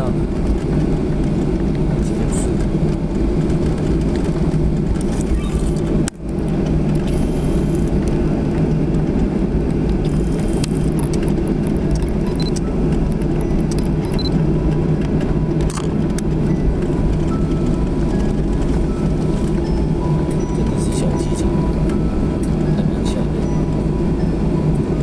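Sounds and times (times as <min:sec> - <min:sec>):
airliner engines droning: 0:00.0 - 0:25.0
light rattles and clicks: 0:00.2 - 0:23.5.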